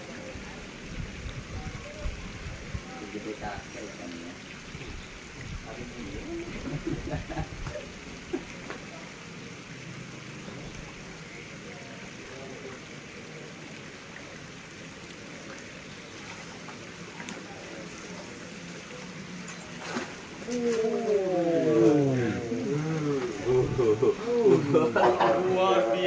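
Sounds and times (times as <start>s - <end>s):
hiss of water: 0.0s - 26.0s.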